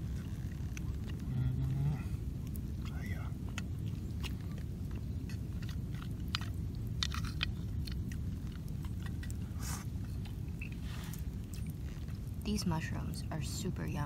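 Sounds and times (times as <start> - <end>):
steady low rumble: 0.0 - 14.0
person chewing: 0.1 - 12.3.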